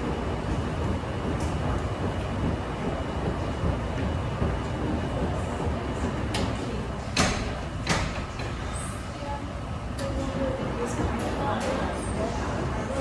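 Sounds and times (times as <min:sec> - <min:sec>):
washing machine rumbling: 0:00.0 - 0:13.0.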